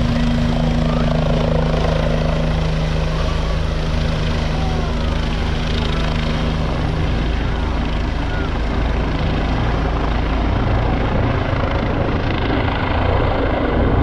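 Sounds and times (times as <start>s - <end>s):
helicopter rotor hum: 0.0s - 14.0s.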